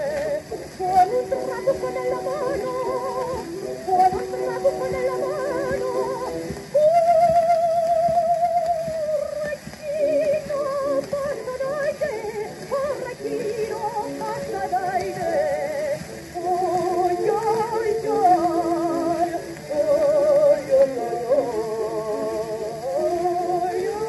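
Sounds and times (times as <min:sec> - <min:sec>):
record surface hiss: 0:00.0 - 0:24.0
soprano singing with vibrato: 0:00.0 - 0:24.0
thin instrumental accompaniment: 0:00.0 - 0:24.0.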